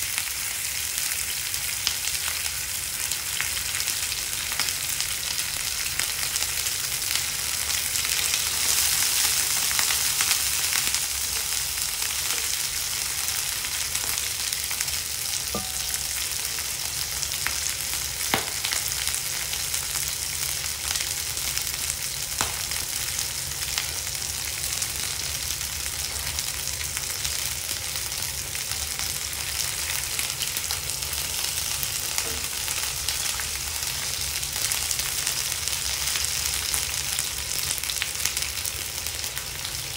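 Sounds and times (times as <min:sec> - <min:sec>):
meat frying in oil: 0:00.0 - 0:39.9.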